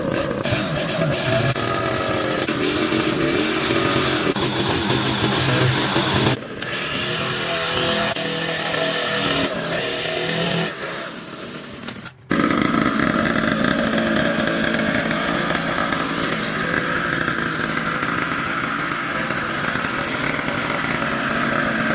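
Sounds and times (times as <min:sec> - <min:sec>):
small motorcycle engine running: 0:00.0 - 0:21.9.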